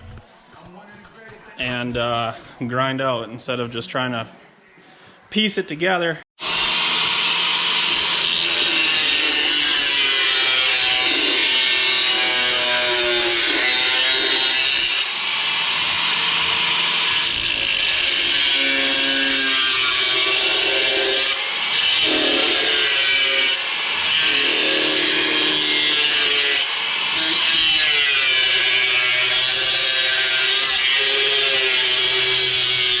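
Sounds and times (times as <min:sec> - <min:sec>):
electric grinder grinding metal: 0:06.4 - 0:33.0.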